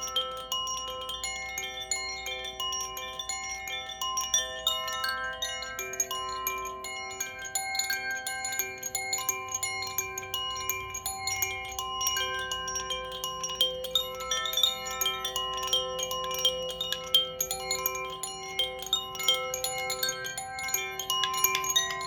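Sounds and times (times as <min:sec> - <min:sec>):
wind chime ringing: 0:00.0 - 0:22.0.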